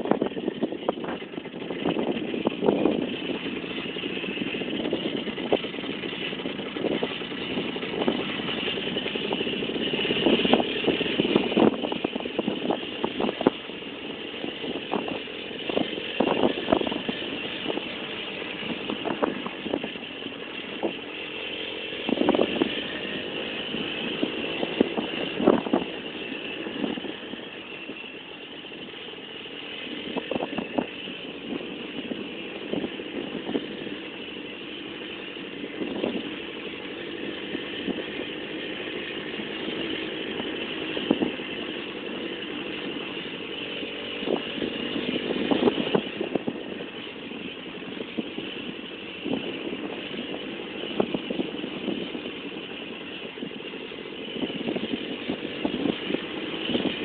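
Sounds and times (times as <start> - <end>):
two-stroke motorcycle engine running: 0.0 - 57.0.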